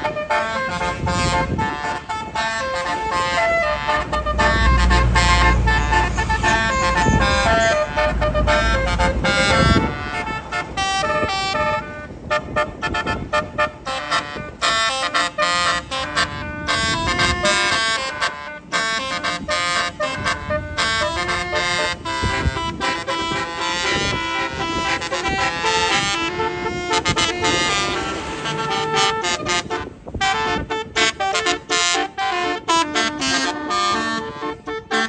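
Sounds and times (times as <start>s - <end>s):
bus engine rumble: 0.0s - 35.0s
musical bus horn playing a tune: 0.0s - 35.0s.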